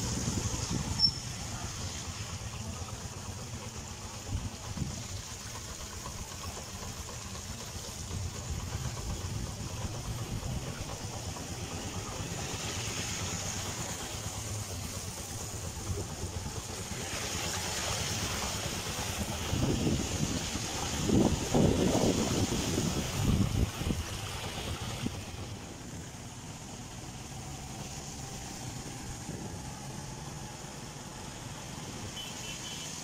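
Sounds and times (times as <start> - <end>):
motorcycle engine running: 0.0 - 33.0
water spray hissing: 0.0 - 33.0.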